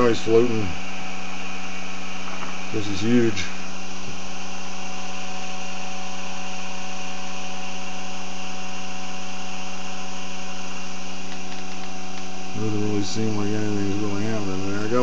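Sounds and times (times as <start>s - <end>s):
electric motor humming: 0.0s - 15.0s.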